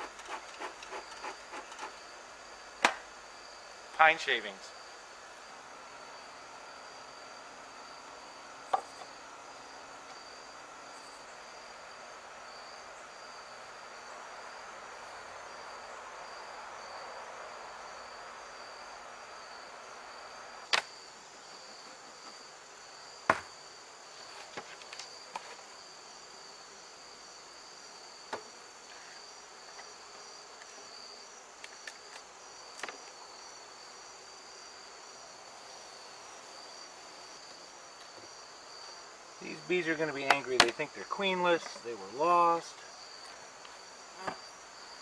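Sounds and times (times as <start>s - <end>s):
insects chirping chorus: 0.0s - 45.0s.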